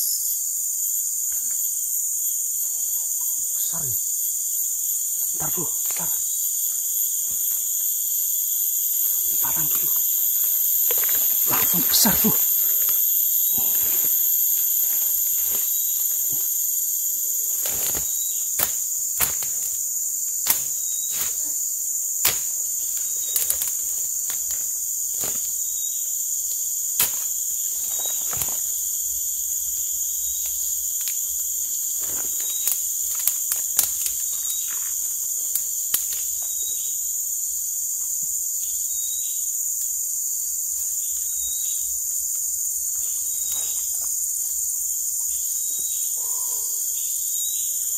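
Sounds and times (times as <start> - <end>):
insects chorus: 0.0 - 47.9.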